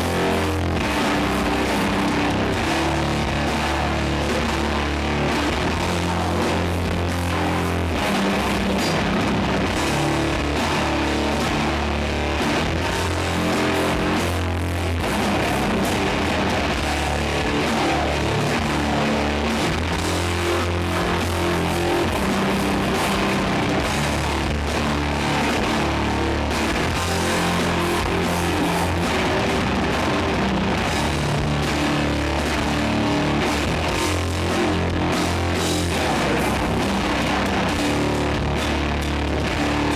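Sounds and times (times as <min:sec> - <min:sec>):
doom metal band playing live: 0:00.0 - 0:39.9.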